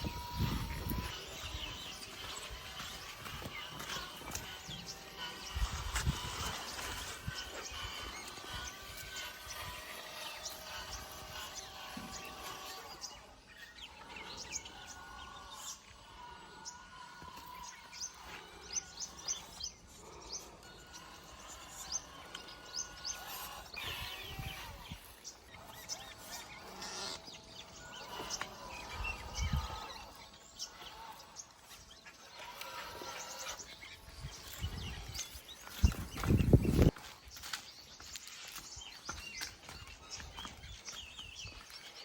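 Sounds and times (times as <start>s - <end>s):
birds chirping: 0.0s - 42.0s
faint outdoor background noise: 0.0s - 42.0s.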